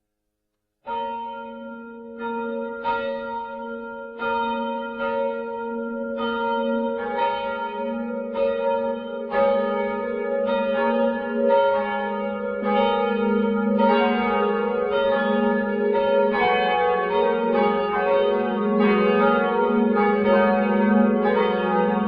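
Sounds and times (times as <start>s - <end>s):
church bells ringing: 0.9s - 22.0s.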